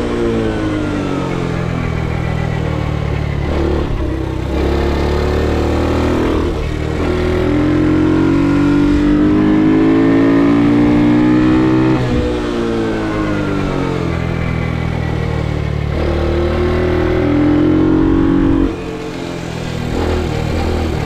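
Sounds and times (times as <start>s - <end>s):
minimoto engine revving: 0.0s - 21.0s.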